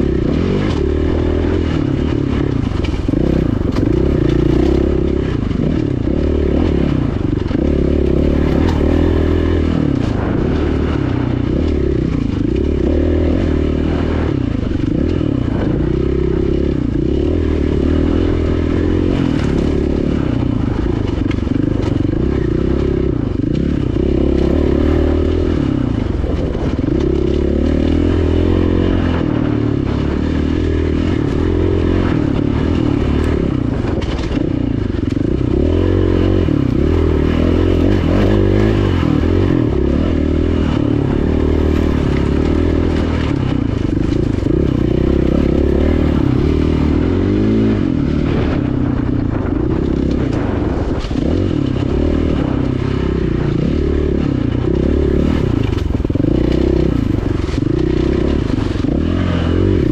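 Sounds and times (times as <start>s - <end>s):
engine clattering: 0.0s - 59.9s
motorcycle engine revving: 0.0s - 59.9s.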